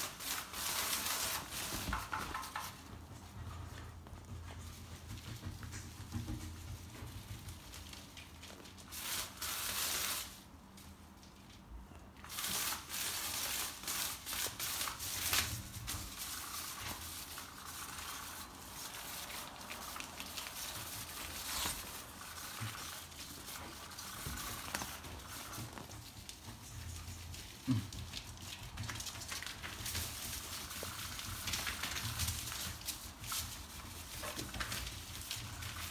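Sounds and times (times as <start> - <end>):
animals rustling on plastic: 0.0 - 35.9.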